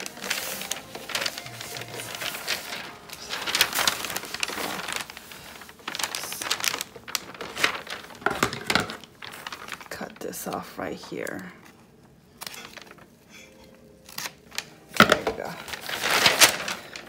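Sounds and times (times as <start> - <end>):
paper and fabric rustling: 0.0 - 17.0.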